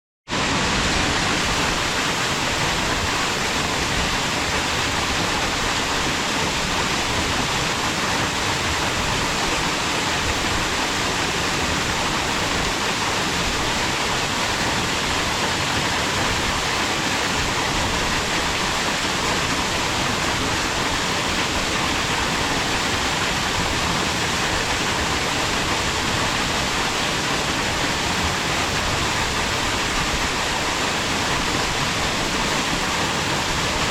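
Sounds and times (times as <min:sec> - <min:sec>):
waterfall rushing: 0:00.3 - 0:33.9.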